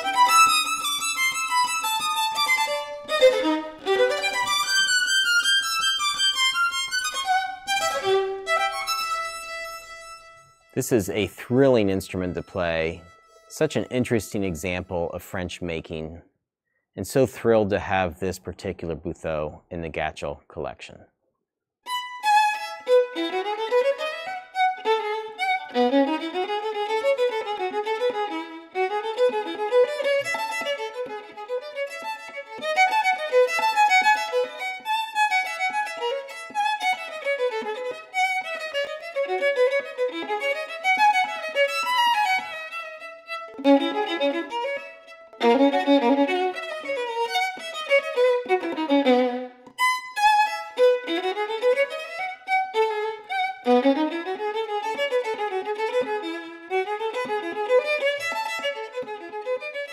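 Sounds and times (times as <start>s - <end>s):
solo violin playing fast scales: 0.0s - 15.8s, 21.9s - 59.9s.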